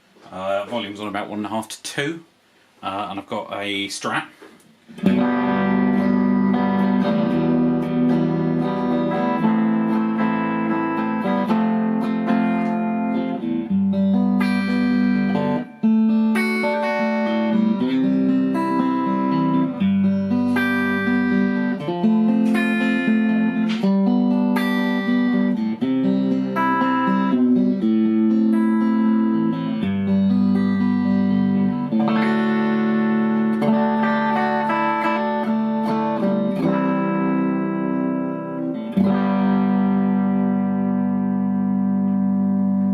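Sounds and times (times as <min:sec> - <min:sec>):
clean electric guitar chords: 0:05.0 - 0:42.9.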